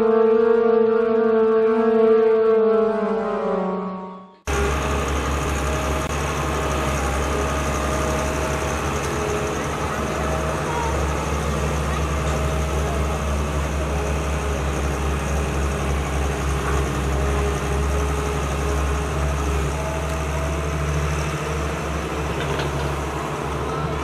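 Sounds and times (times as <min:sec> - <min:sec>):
excavator diesel engine running: 0:04.4 - 0:24.0.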